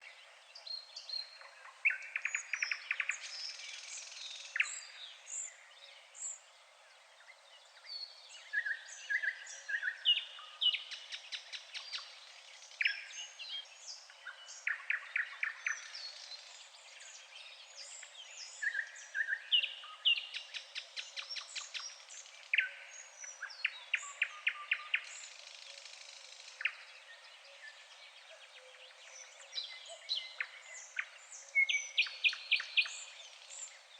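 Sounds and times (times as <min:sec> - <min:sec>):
songbirds trilling and chirping: 0:00.0 - 0:33.9.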